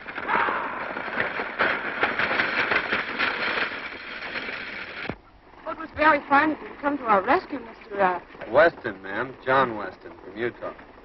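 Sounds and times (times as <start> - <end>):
hooves and wheels clattering: 0.0 - 11.0.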